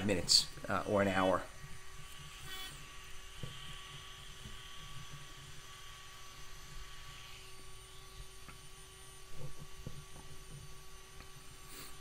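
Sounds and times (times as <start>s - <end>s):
rotary tool whining: 0.0s - 12.0s
steady hum: 0.0s - 12.0s.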